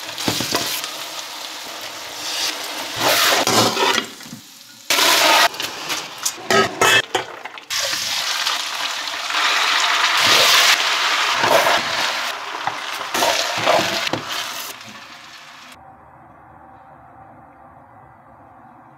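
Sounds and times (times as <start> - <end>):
food sizzling in a wok: 0.0 - 15.8.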